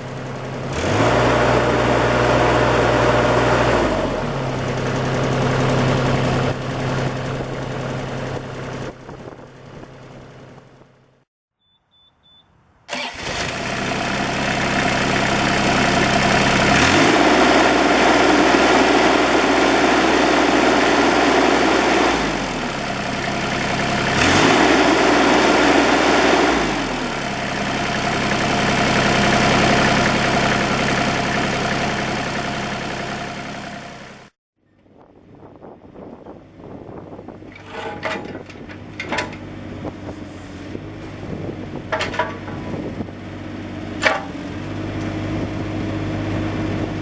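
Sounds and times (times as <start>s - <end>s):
diesel engine idling and revving: 0.0s - 11.3s, 12.9s - 34.4s, 35.6s - 47.0s.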